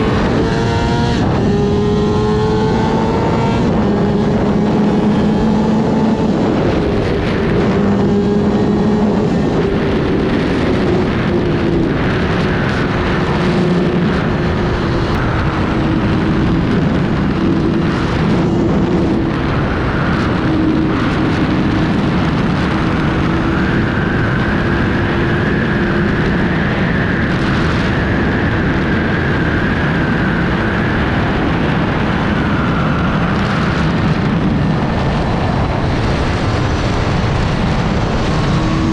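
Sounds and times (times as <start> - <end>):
motorcycle engine running: 0.0 - 38.9
steady rush of noise: 0.0 - 38.9.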